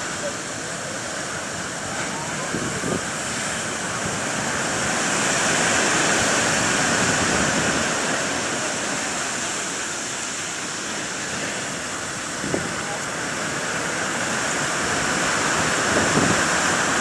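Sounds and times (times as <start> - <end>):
waves breaking: 0.0 - 17.0.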